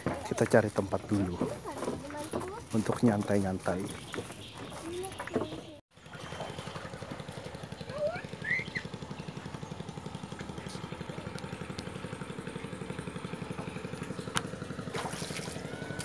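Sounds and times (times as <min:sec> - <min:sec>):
small engine puttering: 0:00.0 - 0:16.0.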